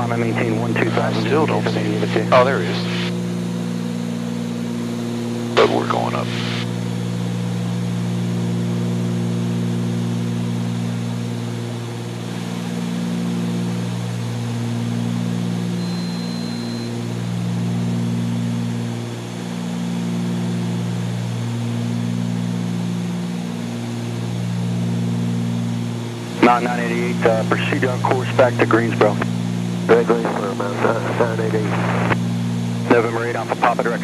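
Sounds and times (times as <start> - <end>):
twin propeller engines droning: 0.0 - 34.0.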